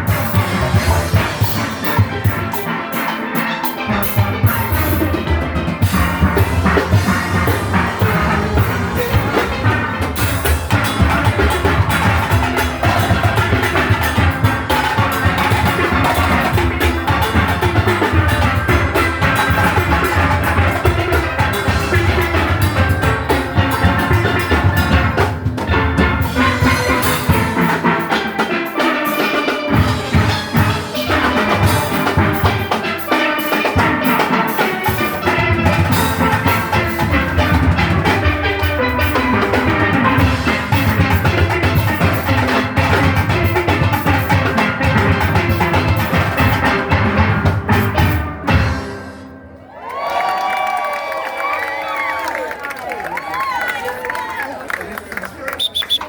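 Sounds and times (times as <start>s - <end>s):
steelpans playing: 0.0s - 49.6s
drum kit and percussion beat: 0.0s - 51.7s.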